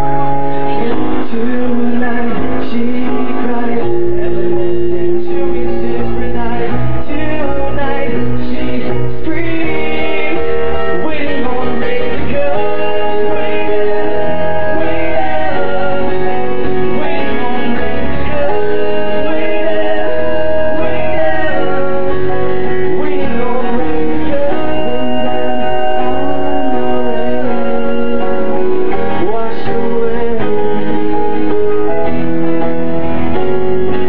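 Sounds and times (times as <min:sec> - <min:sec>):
acoustic guitar strumming: 0:00.0 - 0:34.0
person singing: 0:00.0 - 0:34.0.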